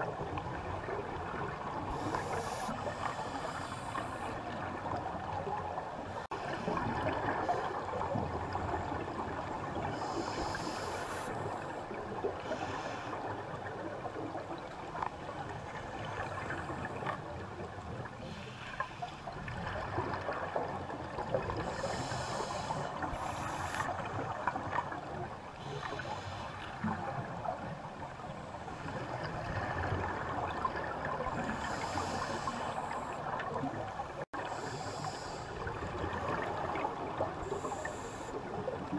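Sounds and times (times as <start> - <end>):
muffled underwater hiss: 0.1 - 38.9.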